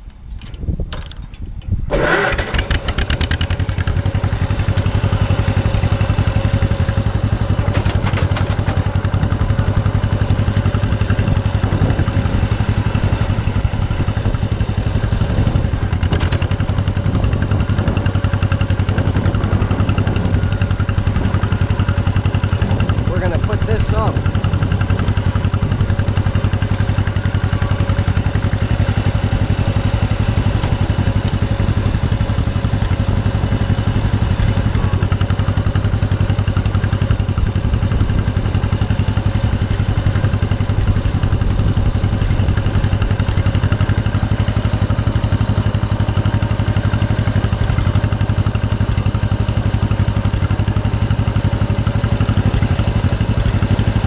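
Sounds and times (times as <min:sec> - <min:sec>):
tractor engine running steadily: 0:00.0 - 0:54.0.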